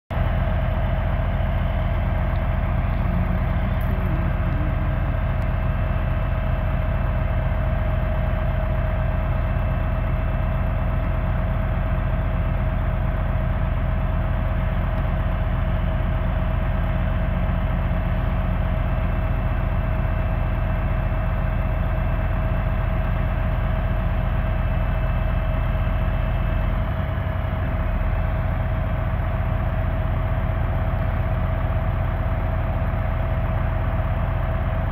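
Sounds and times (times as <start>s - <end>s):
engine idling with whine: 0.1s - 34.9s.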